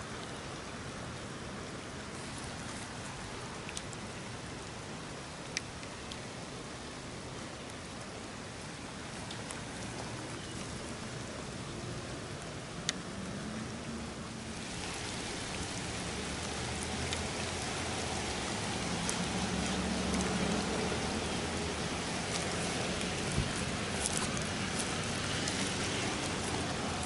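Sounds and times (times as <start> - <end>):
rain falling on water: 0.0 - 27.0.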